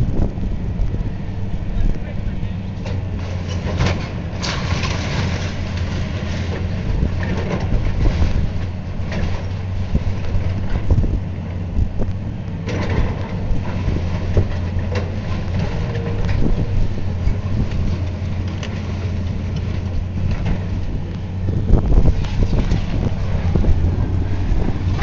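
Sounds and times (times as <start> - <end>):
diesel engine running: 0.0 - 25.0
debris cracking and clattering: 2.8 - 25.0.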